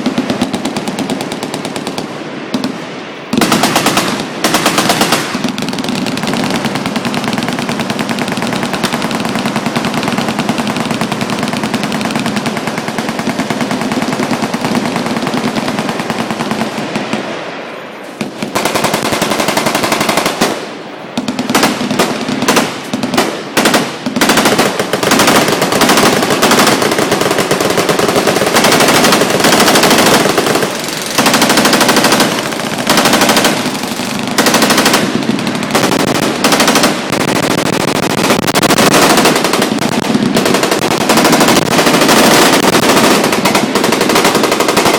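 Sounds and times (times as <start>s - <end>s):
machine guns firing: 0.0s - 2.7s, 3.3s - 16.9s, 18.2s - 20.6s, 21.2s - 44.9s.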